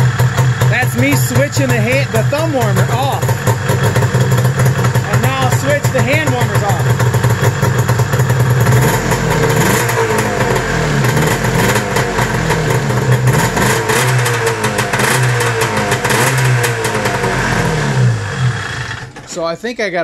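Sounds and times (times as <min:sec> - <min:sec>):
snowmobile engine running unevenly: 0:00.0 - 0:19.1.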